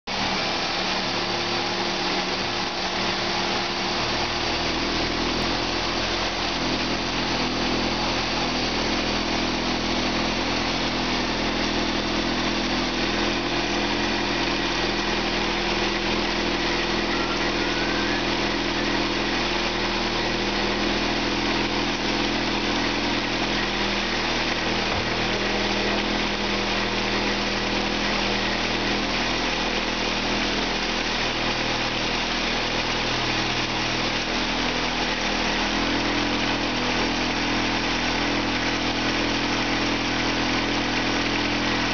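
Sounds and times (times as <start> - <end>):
car engine idling: 0.1 - 41.9.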